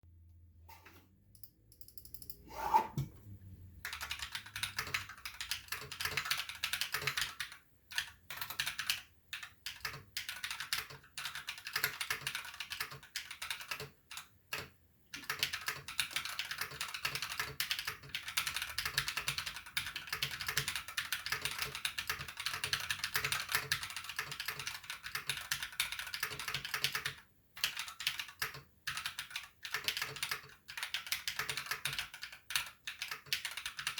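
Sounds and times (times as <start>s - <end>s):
mechanical keyboard typing: 3.8s - 33.9s.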